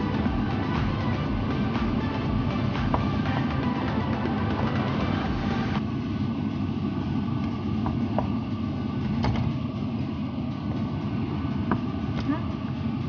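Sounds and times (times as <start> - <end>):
background music: 0.0 - 5.8, 7.2 - 13.0
low mechanical hum: 0.0 - 13.0.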